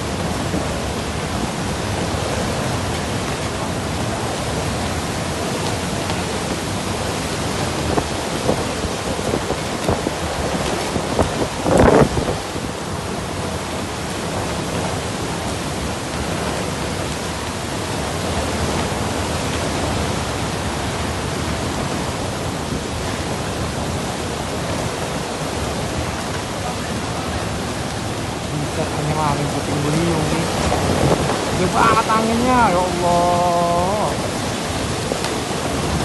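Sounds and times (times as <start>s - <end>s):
heavy rain: 0.0s - 36.0s
strong wind: 0.0s - 36.0s.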